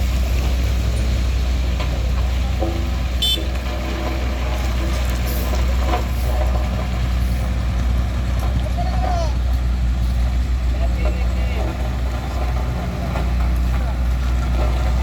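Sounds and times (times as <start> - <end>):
diesel engine running at low revs: 0.0 - 15.0.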